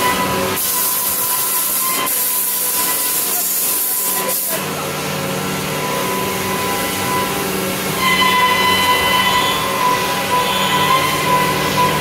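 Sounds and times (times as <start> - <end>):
factory machine hum: 0.0 - 12.0.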